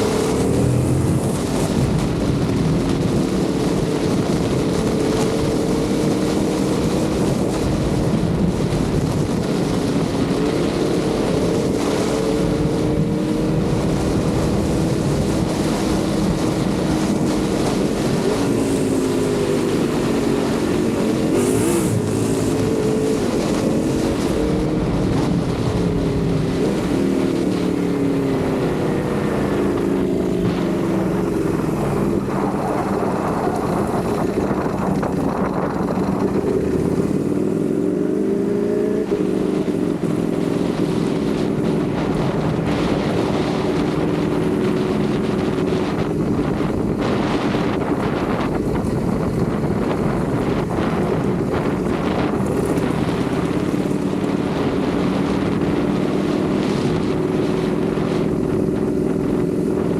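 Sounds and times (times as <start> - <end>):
motorcycle engine running: 0.0 - 59.9
wind rushing past microphone: 0.0 - 59.9.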